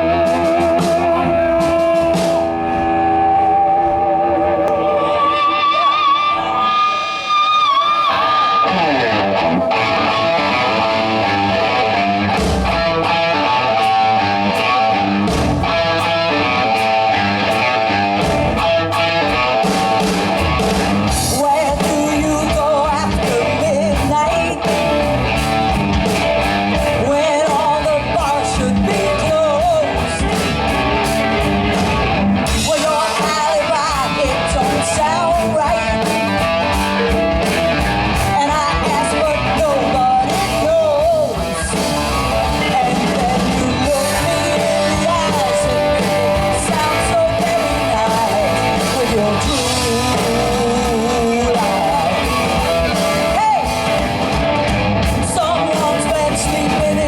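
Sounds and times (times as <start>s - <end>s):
person singing: 0.0s - 15.2s, 21.0s - 25.1s, 26.8s - 30.7s, 32.4s - 37.4s, 38.2s - 54.4s, 55.2s - 57.0s
rock band playing: 0.0s - 57.0s.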